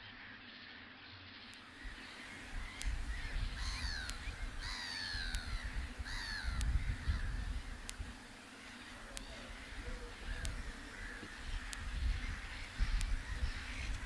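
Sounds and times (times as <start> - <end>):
gull calling: 1.8 - 14.0.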